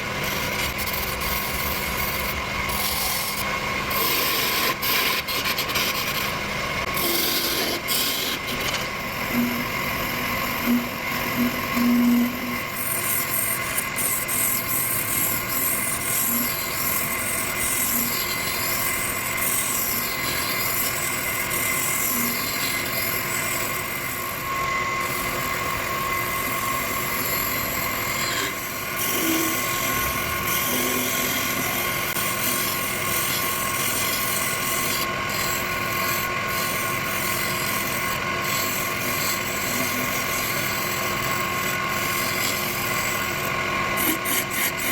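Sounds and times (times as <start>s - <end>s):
turning tool cutting wood: 0.0s - 44.9s
wood lathe motor whine: 0.0s - 44.9s.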